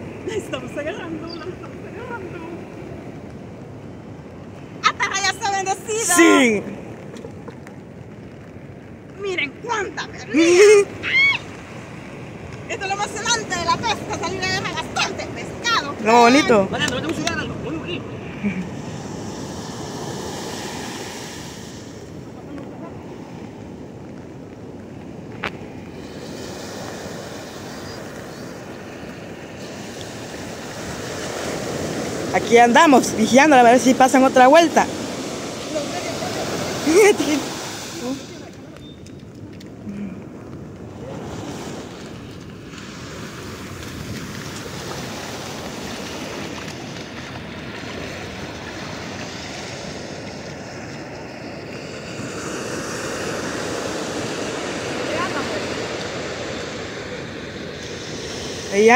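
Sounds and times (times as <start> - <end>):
surf breaking on beach: 0.0 - 58.9
wind buffeting microphone: 0.0 - 58.9.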